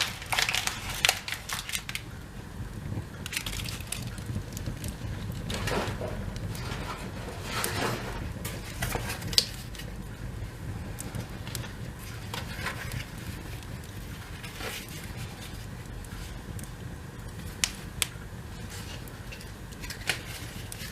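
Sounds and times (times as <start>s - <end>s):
fire crackling: 0.0s - 20.9s
sharp snap of fire: 2.8s - 20.9s.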